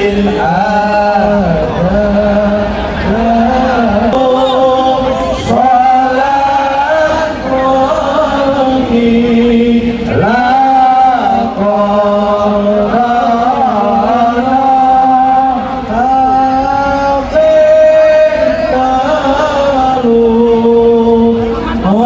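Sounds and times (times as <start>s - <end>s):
devotional chanting: 0.0s - 22.0s.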